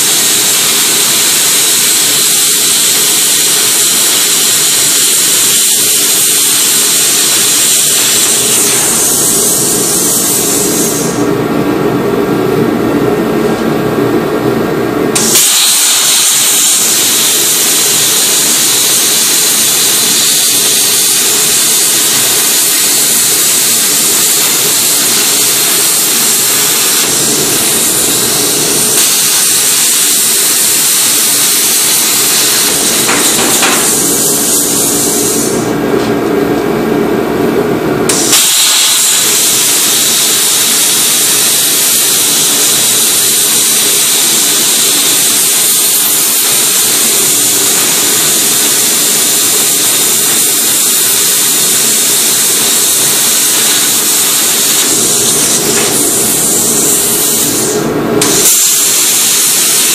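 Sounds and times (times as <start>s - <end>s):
plasma cutter hissing: 0.0s - 11.2s, 15.1s - 35.8s, 38.1s - 59.9s.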